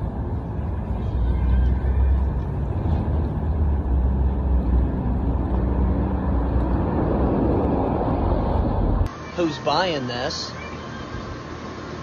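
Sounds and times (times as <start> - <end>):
vehicle running hum and hiss: 0.0 - 12.0.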